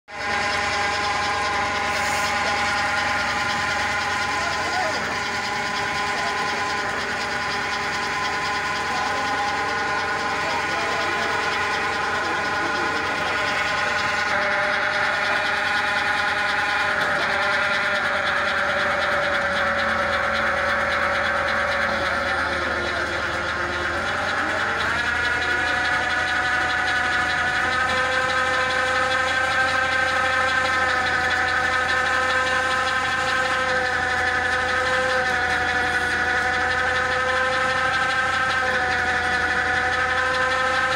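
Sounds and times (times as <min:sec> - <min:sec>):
auger drive whine: 0:00.1 - 0:40.9
tractor engine running: 0:00.1 - 0:40.9.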